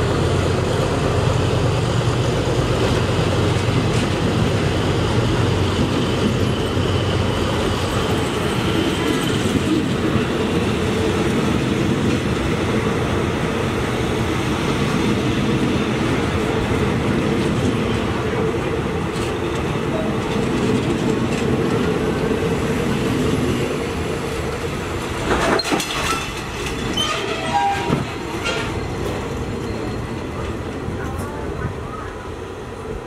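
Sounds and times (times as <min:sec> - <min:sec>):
train wheels on rail: 0:00.0 - 0:33.0.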